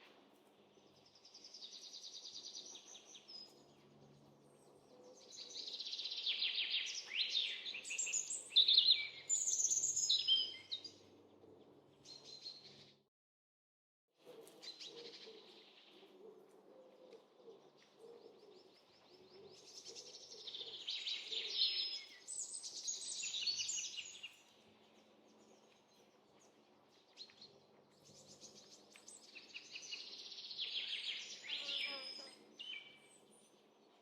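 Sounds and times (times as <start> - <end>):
small birds chirping and trilling: 0.8 - 13.0, 17.2 - 34.0.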